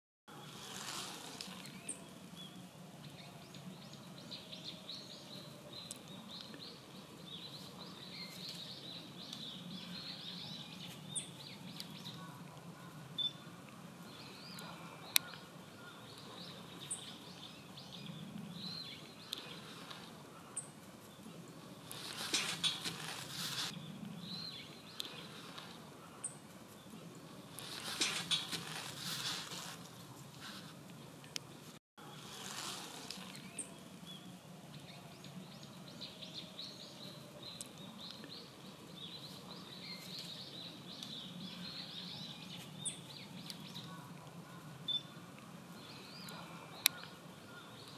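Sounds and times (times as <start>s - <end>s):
birds chirping: 0.3s - 47.9s.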